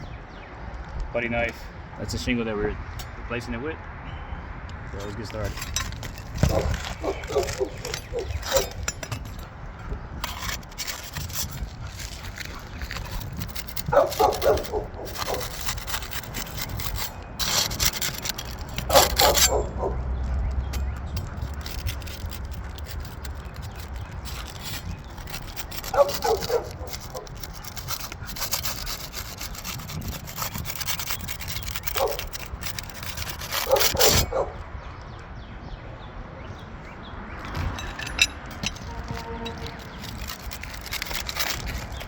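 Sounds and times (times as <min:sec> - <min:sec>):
tools scraping roof shingles: 0:04.8 - 0:34.6, 0:37.4 - 0:42.0.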